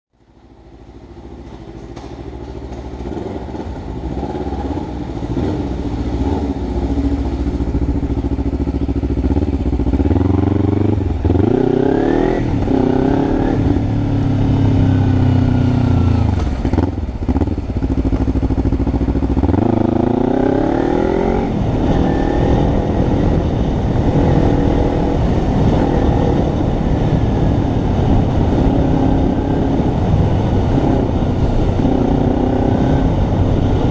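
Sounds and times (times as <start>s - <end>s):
motorcycle engine revving: 0.4s - 33.9s.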